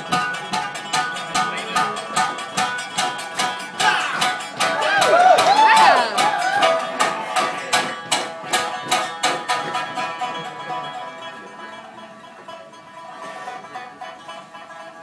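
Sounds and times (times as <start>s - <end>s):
plucked string instrument: 0.0s - 15.0s.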